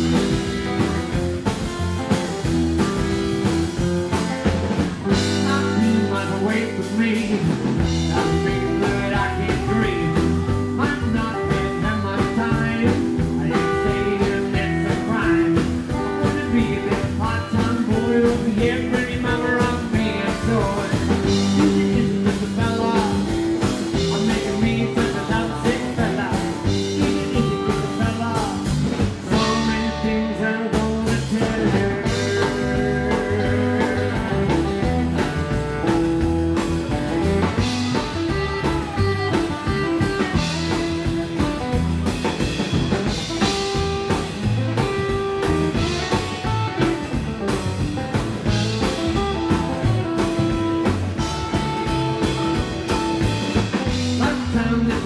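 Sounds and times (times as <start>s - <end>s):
rockabilly band playing live: 0.0s - 55.0s.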